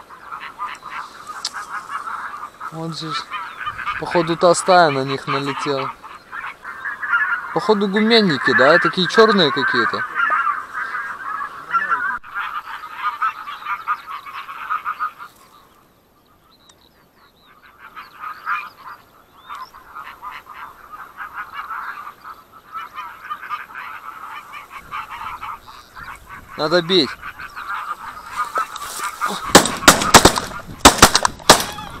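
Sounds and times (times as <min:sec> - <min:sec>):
geese honking: 0:00.0 - 0:15.6, 0:17.2 - 0:32.0.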